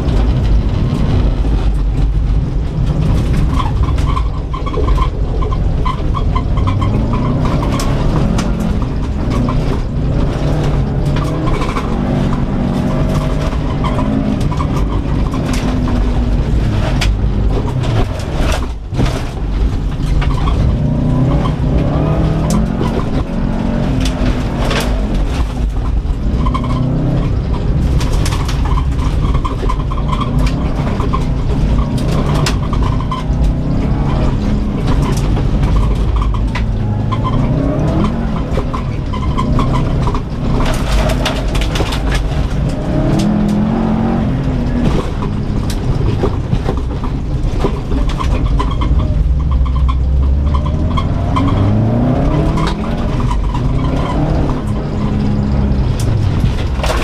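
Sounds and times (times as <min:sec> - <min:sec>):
car engine revving: 0:00.0 - 0:57.0
clatters and knocks from dirt: 0:00.0 - 0:57.0.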